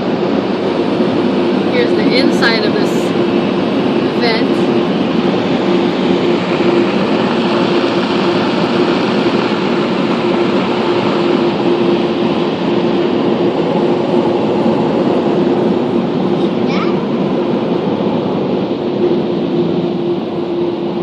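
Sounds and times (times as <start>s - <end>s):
air dryer blowers rushing: 0.0s - 21.0s
steady hum: 0.0s - 21.0s.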